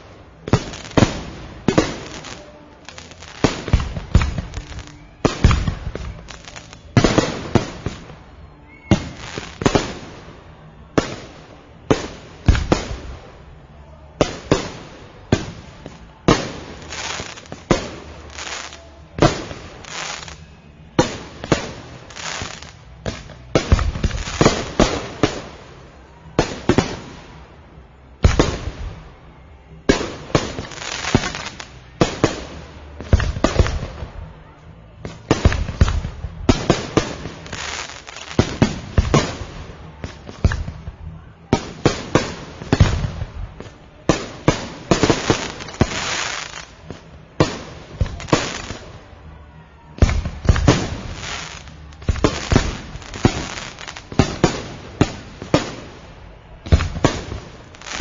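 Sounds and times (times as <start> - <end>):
fireworks bangs: 0.0 - 27.6, 28.2 - 49.2, 49.9 - 58.0.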